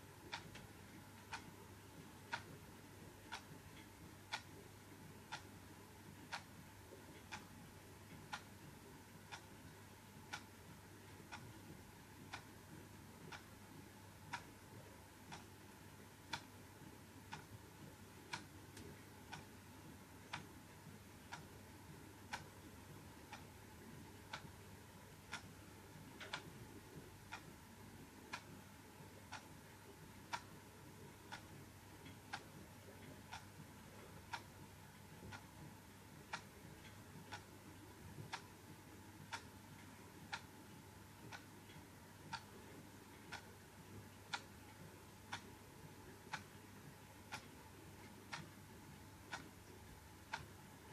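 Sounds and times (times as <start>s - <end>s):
clock ticking: 0.0s - 50.9s.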